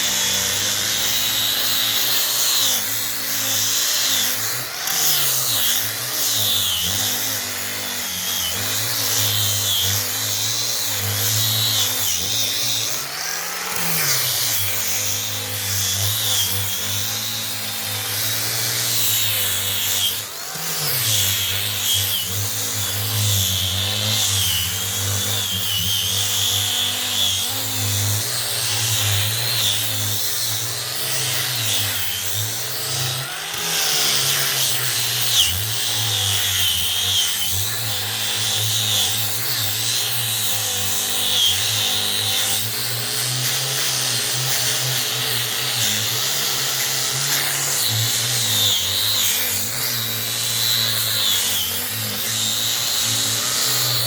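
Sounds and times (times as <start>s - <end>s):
polishing machine motor whine: 0.0s - 54.0s.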